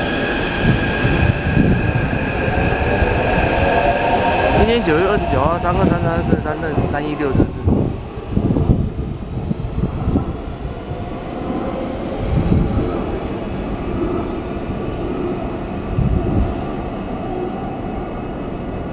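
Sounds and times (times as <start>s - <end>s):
train rumbling on rails: 0.0s - 18.9s.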